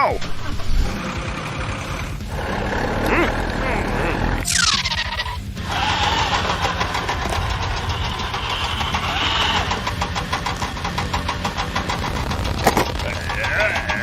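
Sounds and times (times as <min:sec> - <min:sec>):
car engine running: 0:00.1 - 0:14.0.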